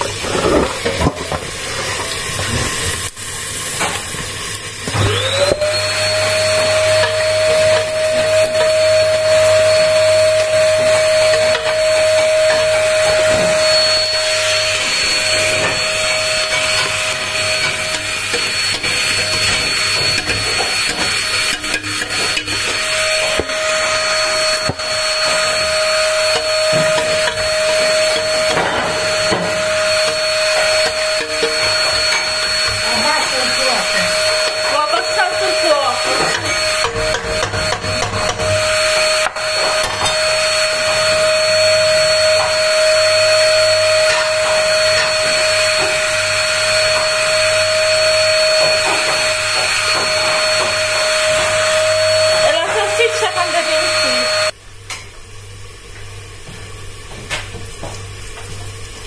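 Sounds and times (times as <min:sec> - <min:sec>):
electric motor whining: 0:04.9 - 0:54.6.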